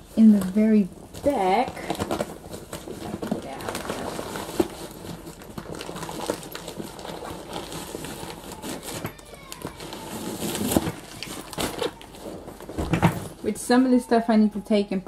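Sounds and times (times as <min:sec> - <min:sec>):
fabric backpack rustling: 0:00.0 - 0:14.1.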